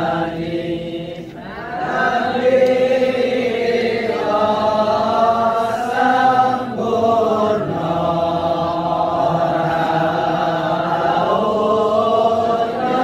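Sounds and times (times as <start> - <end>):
group of voices chanting: 0.0 - 13.0.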